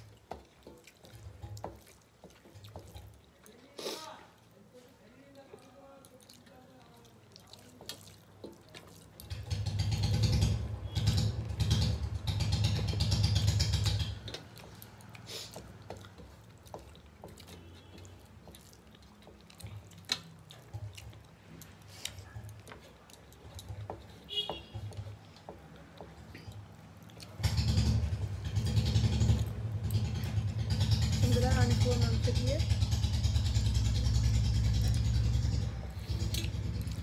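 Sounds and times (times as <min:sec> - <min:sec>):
wet squishing and chewing: 0:00.0 - 0:31.2, 0:32.7 - 0:37.0.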